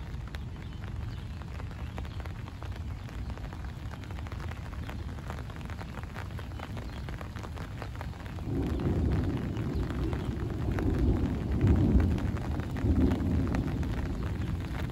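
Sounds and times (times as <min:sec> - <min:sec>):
raindrops ticking: 0:00.0 - 0:14.9.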